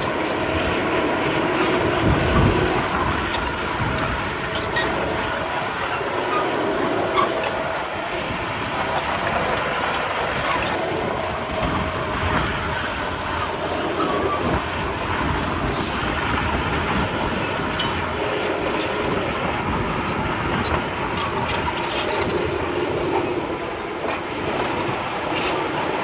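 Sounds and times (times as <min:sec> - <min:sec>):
bulldozer diesel engine running: 0:00.0 - 0:26.0
mechanical clatter: 0:00.0 - 0:26.0.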